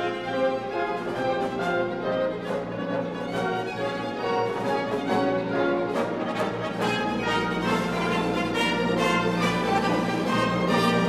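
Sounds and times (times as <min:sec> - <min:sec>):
orchestral music with brass chords: 0:00.0 - 0:11.0.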